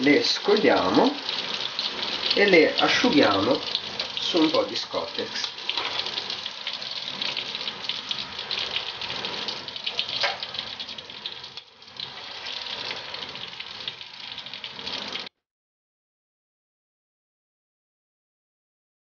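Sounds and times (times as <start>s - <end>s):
oil sizzling with crackles: 0.0s - 15.3s.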